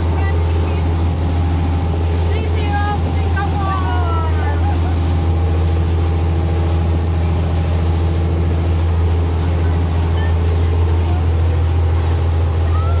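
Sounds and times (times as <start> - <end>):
boat engine drone: 0.0 - 13.0
rushing water: 0.0 - 13.0
wind: 0.0 - 13.0.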